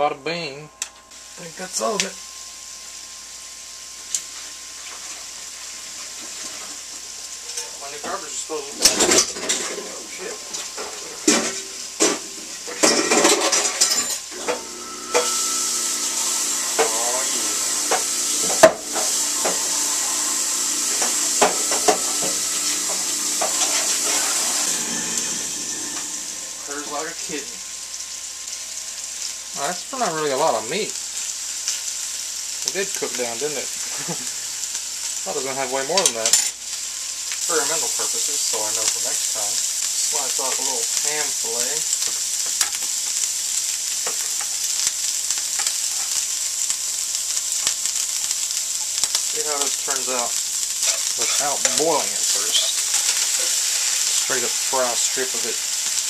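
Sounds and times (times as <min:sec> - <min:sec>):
meat sizzling in oil: 0:01.1 - 0:56.0.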